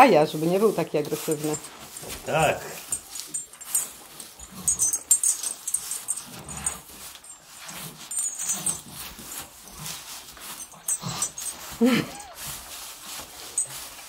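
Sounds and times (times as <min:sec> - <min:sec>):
calves snuffling and licking: 0:00.0 - 0:14.0
rubbing on cloth: 0:00.0 - 0:14.0
straw rustling underfoot: 0:00.0 - 0:14.0.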